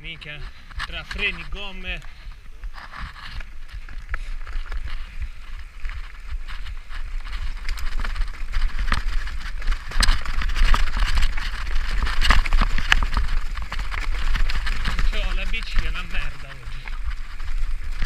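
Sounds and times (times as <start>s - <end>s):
bike knocking and rattling: 0.0s - 18.0s
tyres crunching over loose stones: 0.0s - 18.0s
wind rumble on microphone: 0.0s - 18.0s.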